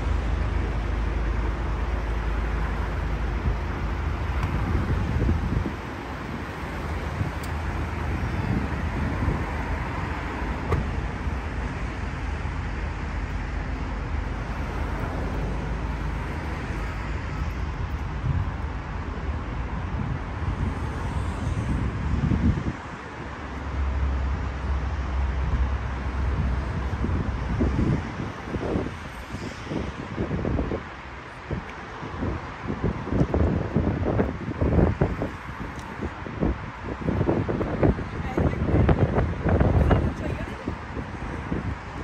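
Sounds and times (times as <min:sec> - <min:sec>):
highway traffic cars passing: 0:00.0 - 0:42.0.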